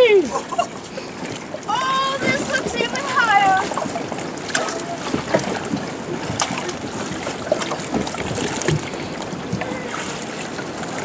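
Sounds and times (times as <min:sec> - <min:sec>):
sea water lapping and splashing: 0:00.0 - 0:11.0
wind on microphone: 0:00.0 - 0:11.0.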